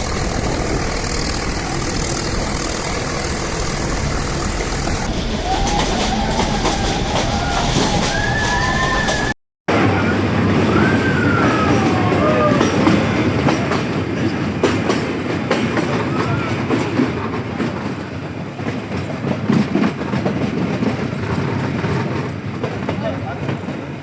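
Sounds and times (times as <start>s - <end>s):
toy train rumbling: 0.0s - 24.0s
wheels clicking over rail joints: 0.0s - 24.0s.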